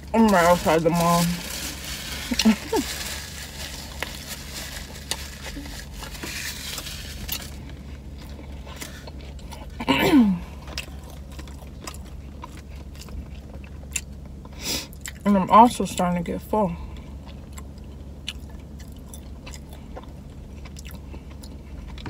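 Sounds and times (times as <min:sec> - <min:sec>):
low hum: 0:00.0 - 0:22.0
biting and chewing: 0:00.1 - 0:09.9, 0:10.5 - 0:15.2, 0:17.0 - 0:22.0.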